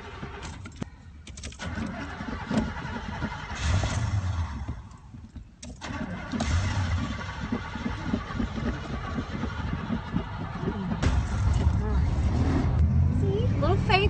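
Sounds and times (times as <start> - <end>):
car engine cranking and starting: 0.0 - 14.0.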